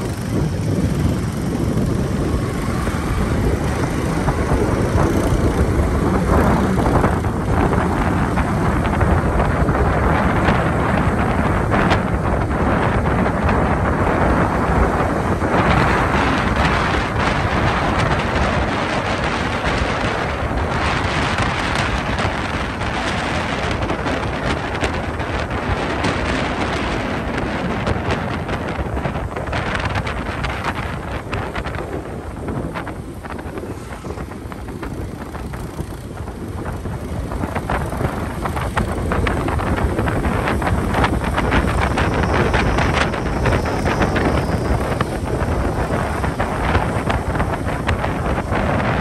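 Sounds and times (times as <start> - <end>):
motorcycle and road rumble: 0.0 - 49.0
wind buffeting microphone: 0.0 - 49.0.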